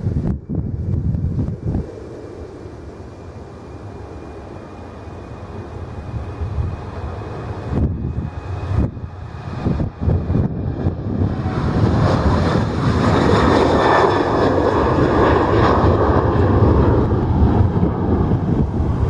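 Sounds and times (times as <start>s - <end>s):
wind buffeting microphone: 0.0s - 4.4s, 5.4s - 19.0s
airliner engine noise: 0.0s - 19.0s.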